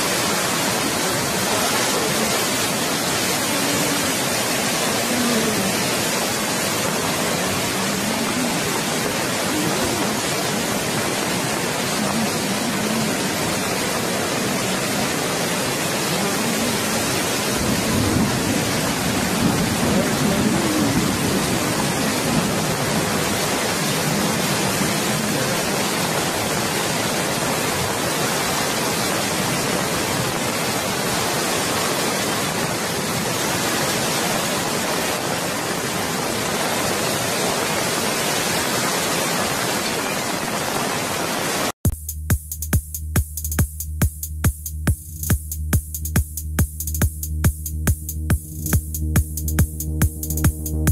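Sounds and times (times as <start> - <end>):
floodwater rushing: 0.0 - 41.8.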